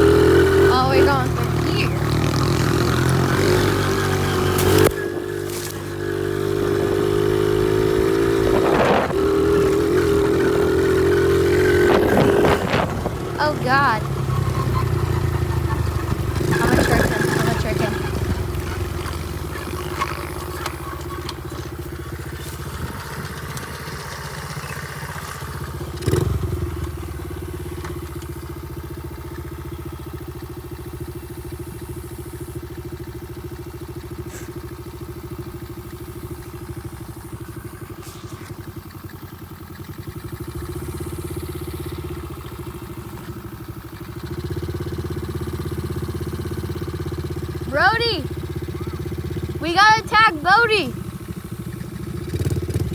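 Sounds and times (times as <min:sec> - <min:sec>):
pit bike engine running: 0:00.0 - 0:52.9.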